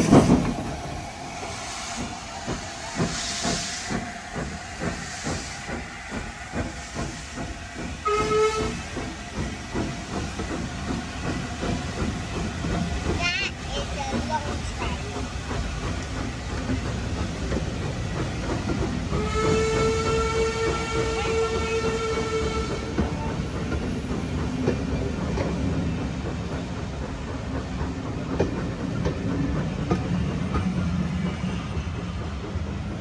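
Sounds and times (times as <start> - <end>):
railway coaches rolling past: 0.0 - 33.0.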